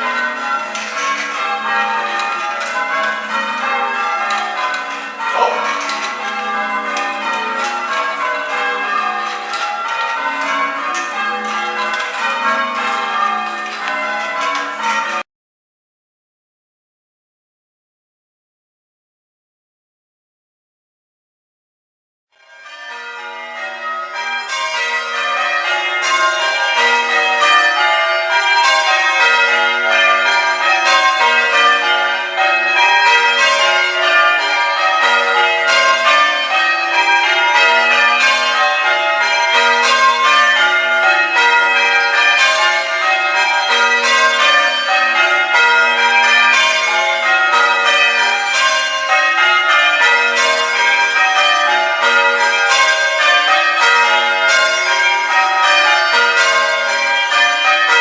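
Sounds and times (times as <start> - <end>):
church bells ringing changes: 0.0 - 15.3, 22.4 - 58.0.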